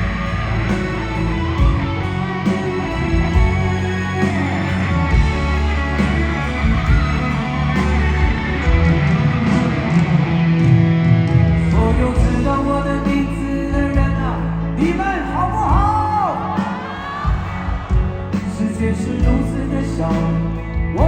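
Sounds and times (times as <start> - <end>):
electric guitar: 0.0 - 21.0
rock band playing: 0.0 - 21.0.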